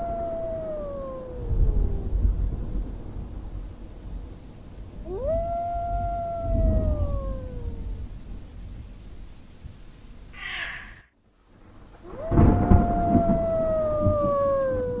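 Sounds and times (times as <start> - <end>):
slowly falling howl: 0.0 - 3.8, 5.0 - 8.7, 10.4 - 15.0.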